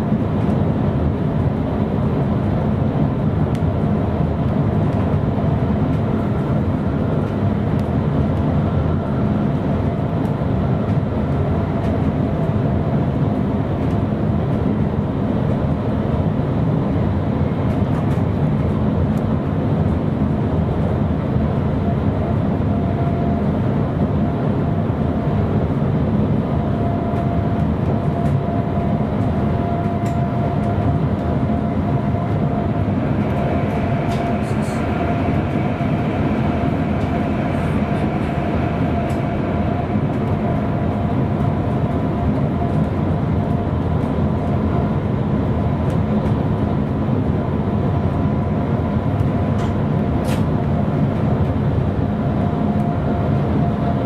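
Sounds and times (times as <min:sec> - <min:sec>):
electric train running on track: 0:03.3 - 0:54.0.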